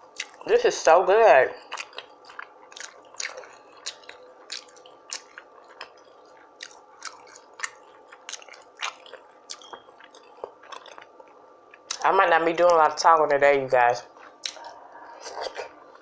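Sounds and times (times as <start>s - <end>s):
person chewing food: 0.0s - 0.5s, 1.6s - 12.0s, 14.1s - 16.0s.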